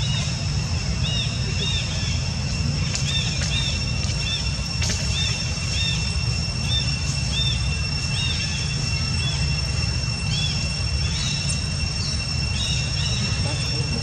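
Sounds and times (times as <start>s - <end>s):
dense low rumble: 0.0s - 14.0s
high insect drone: 0.0s - 14.0s.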